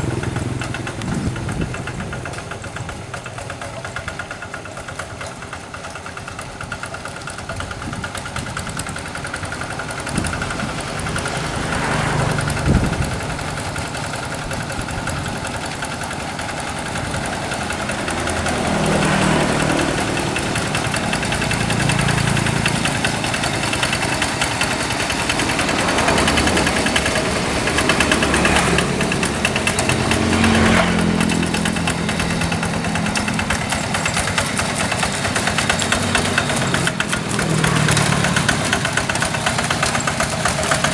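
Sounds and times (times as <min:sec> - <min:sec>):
diesel hand tractor engine running: 0:00.0 - 0:40.9.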